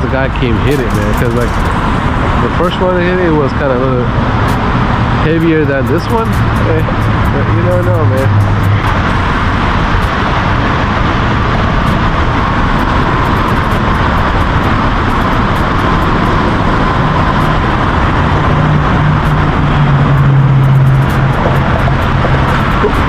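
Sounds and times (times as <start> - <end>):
low hum: 0.0 - 23.0
outdoor rushing noise: 0.0 - 23.0.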